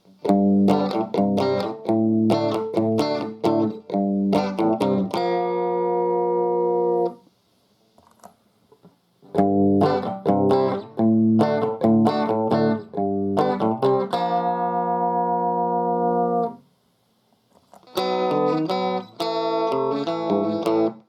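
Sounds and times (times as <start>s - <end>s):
electric guitar chords: 0.0s - 7.2s, 9.3s - 16.6s, 17.8s - 21.0s.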